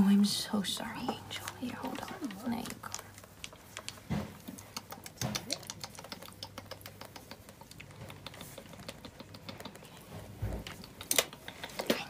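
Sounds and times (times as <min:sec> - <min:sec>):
soft clicks of fingers in wet fur: 0:01.4 - 0:12.0.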